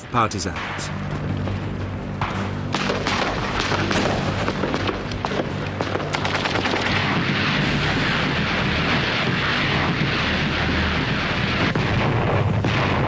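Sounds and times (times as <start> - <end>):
low music drone: 0.0 - 13.0
booming blasts: 2.2 - 13.0
gunshots and machine-gun fire: 2.2 - 13.0.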